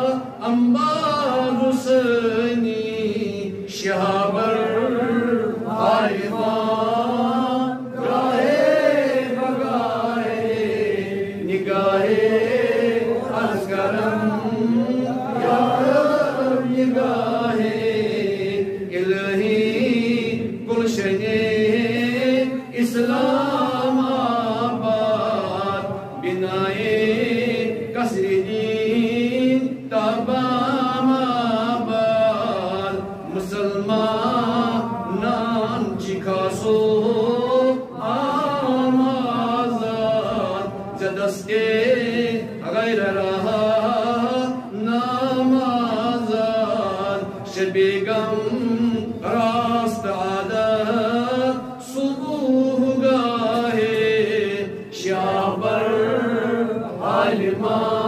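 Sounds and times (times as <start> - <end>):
man chanting melodically: 0.0 - 58.0.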